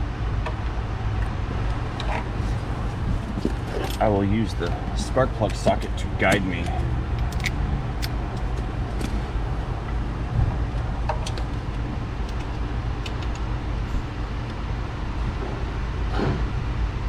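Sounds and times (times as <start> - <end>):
low shop hum: 0.0 - 17.0.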